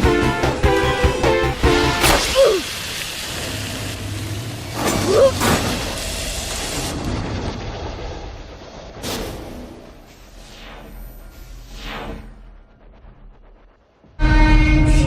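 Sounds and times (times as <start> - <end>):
sharp hit: 0.0 - 2.9, 4.8 - 15.0
rain-like noise: 0.0 - 14.2
low rumble: 2.7 - 15.0.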